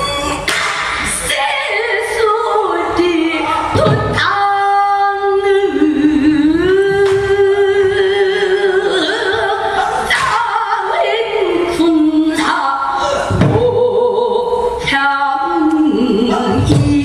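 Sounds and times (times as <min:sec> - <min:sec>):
woman singing long bending notes: 0:01.2 - 0:17.0.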